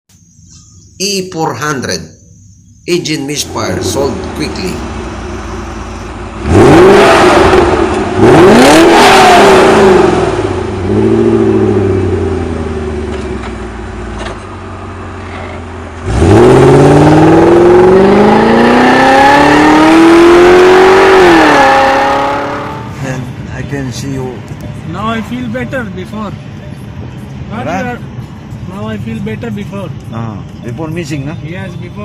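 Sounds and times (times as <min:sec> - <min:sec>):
car engine revving: 0:03.2 - 0:29.4.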